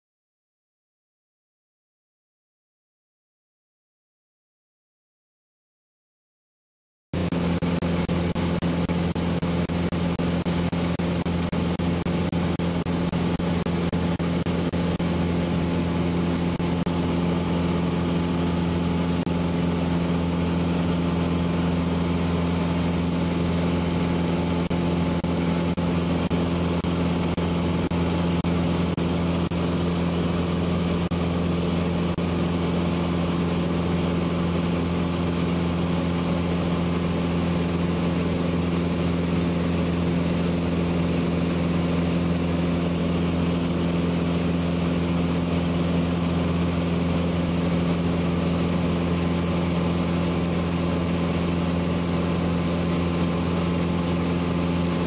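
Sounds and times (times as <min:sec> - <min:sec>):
airplane engine droning: 0:07.2 - 0:55.0.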